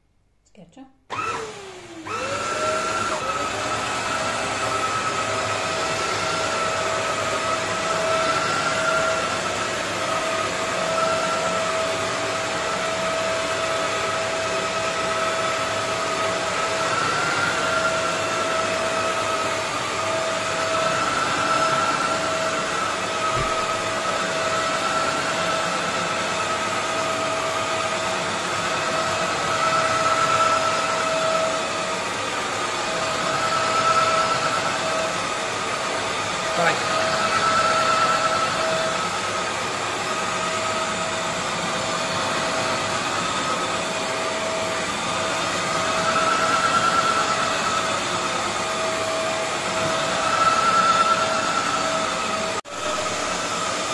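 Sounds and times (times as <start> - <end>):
floor cleaner motor whine: 1.1 - 53.9.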